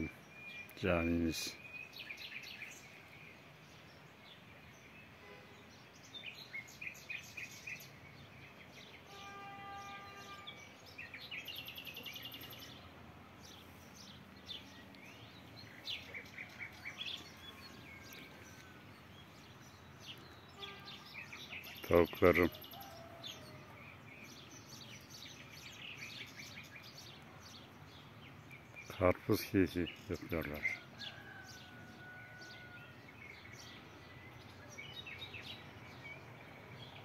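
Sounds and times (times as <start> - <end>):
rural background noise: 0.0 - 37.0
small birds chirping: 0.0 - 37.0.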